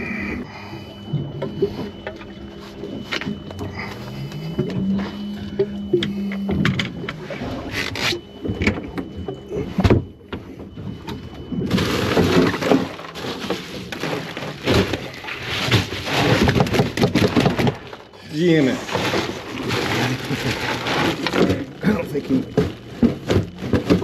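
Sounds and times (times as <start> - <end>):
faint high alarm beep: 0.0 - 24.0
knocks and clatter on boat: 1.2 - 18.2, 18.8 - 24.0.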